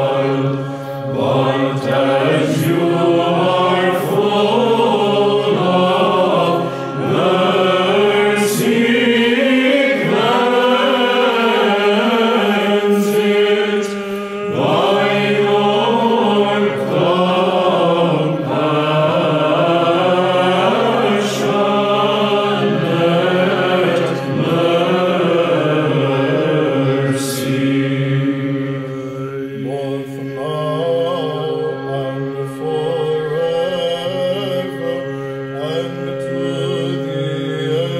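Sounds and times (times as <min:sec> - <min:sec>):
choir chanting melody: 0:00.0 - 0:37.9.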